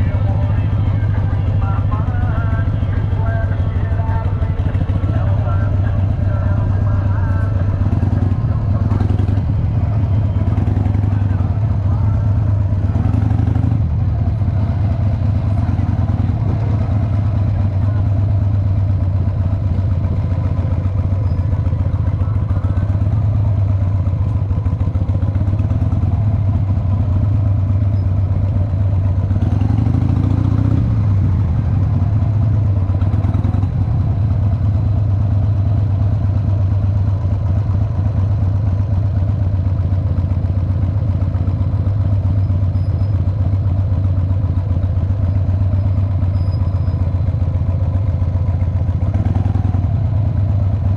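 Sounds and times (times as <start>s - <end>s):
motorcycle engine at low revs: 0.0s - 50.9s.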